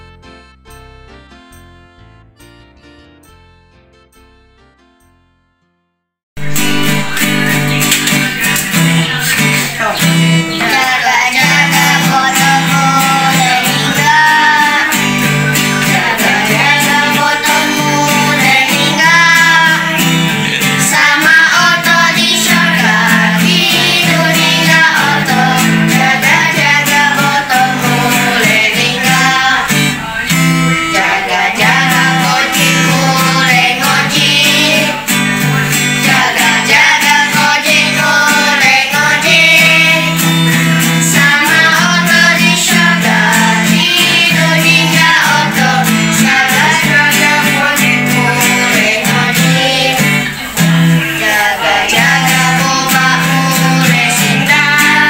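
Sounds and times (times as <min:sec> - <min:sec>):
children singing: 0:06.4 - 0:55.0
strummed acoustic guitar: 0:06.4 - 0:55.0.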